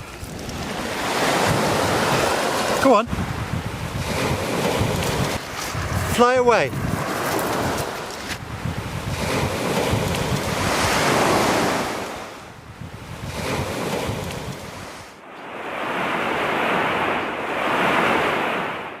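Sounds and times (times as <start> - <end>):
sea waves washing: 0.0 - 19.0
wind buffeting microphone: 0.0 - 19.0.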